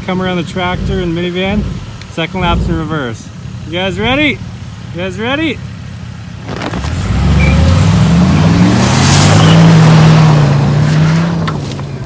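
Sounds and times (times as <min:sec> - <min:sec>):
car engine revving: 0:00.0 - 0:12.0
tyres spraying dirt and gravel: 0:00.0 - 0:12.0.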